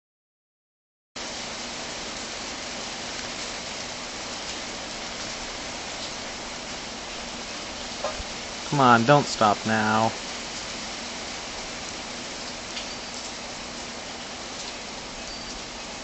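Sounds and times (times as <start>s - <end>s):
steady downpour of rain: 1.2s - 16.0s.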